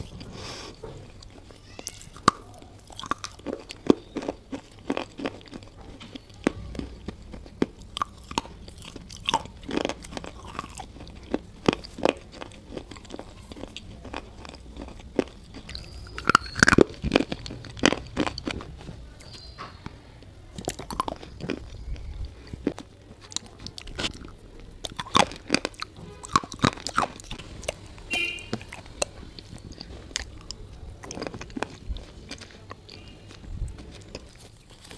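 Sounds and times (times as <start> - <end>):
person chewing something crunchy: 0.0 - 34.9.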